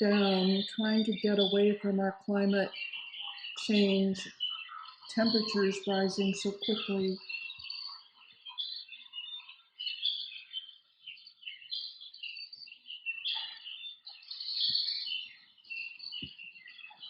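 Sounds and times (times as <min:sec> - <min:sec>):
recorded bird chirps and trills: 0:00.0 - 0:17.0.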